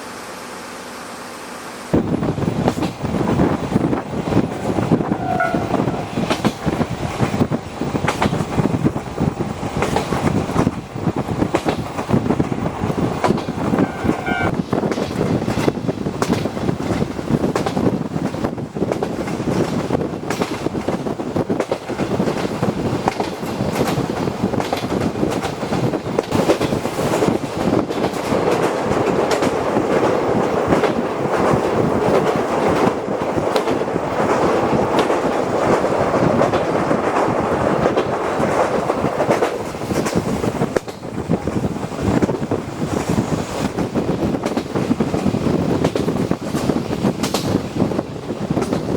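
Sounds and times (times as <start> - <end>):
train rolling noise: 0.0 - 48.9
wheels clacking over rail joints: 2.1 - 48.9.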